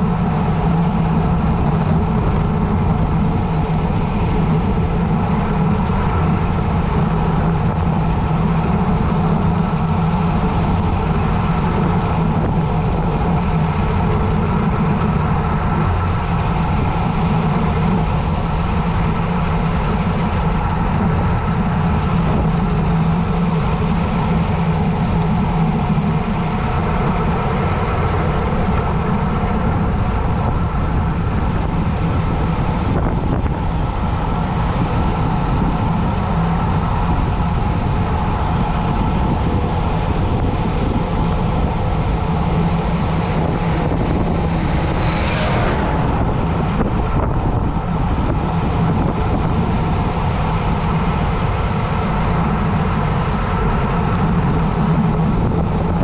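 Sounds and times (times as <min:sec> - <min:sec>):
tyre and road noise: 0:00.0 - 0:56.0
wind rush over microphone: 0:00.0 - 0:56.0.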